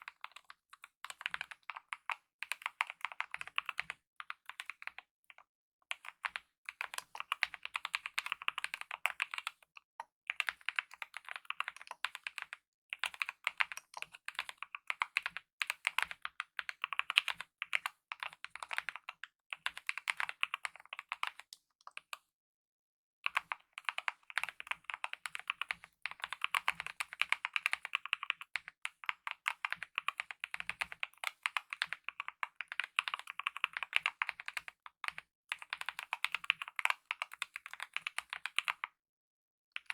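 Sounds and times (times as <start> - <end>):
typing on mechanical keyboard: 0.0 - 22.2, 23.3 - 38.9.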